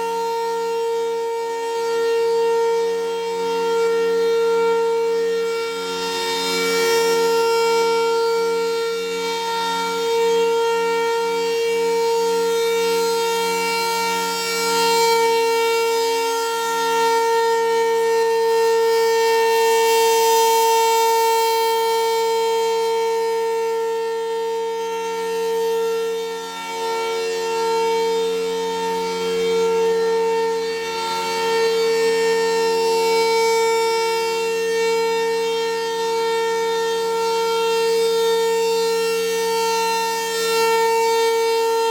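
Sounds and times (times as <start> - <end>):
outdoor warning siren steady tone: 0.0 - 41.9.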